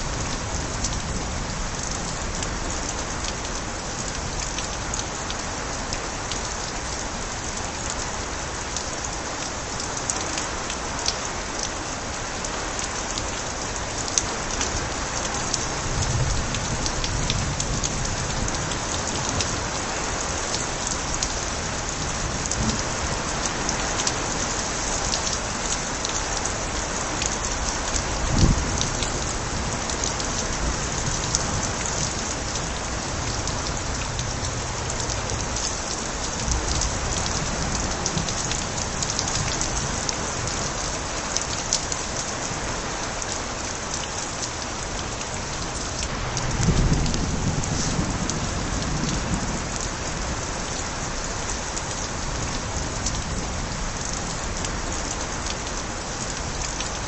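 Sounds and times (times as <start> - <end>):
rain pouring from gutters: 0.0 - 57.0.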